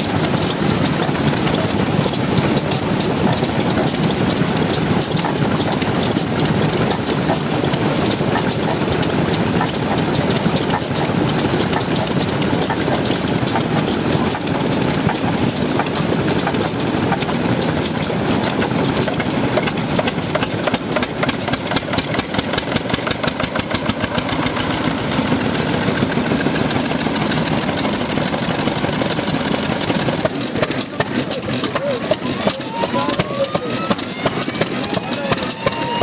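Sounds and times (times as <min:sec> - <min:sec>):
diesel engine knocking: 0:00.0 - 0:36.0.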